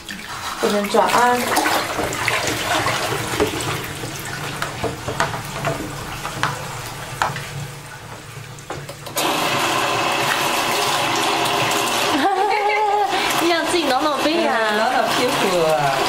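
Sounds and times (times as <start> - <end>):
tap water running into basin: 0.0 - 16.0
water splashing in a basin: 0.0 - 16.0.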